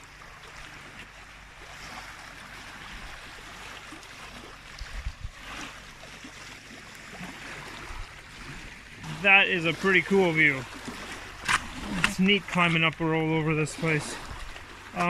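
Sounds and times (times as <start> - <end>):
water lapping against rocky shore: 0.0 - 15.0.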